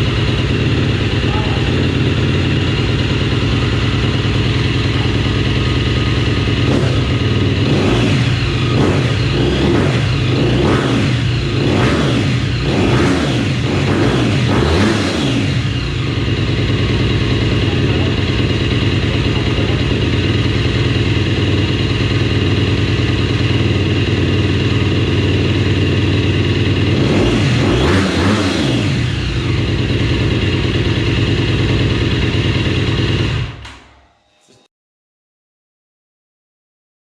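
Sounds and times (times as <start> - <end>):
motocross engine idling: 0.0 - 33.7
engine revving: 0.0 - 33.8.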